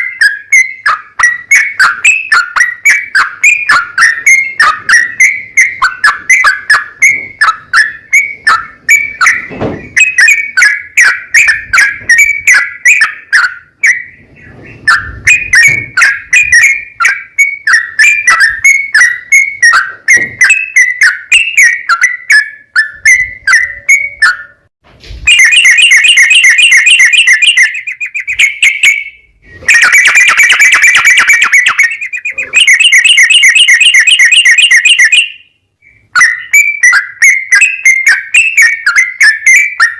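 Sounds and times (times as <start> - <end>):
bird chattering chirps: 0.0 - 24.6, 25.3 - 39.9
bird rolling trills: 0.0 - 24.6, 25.3 - 35.3.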